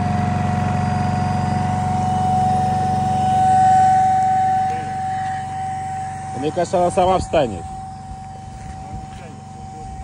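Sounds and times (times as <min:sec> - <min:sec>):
electric air pump whining: 0:00.0 - 0:10.0.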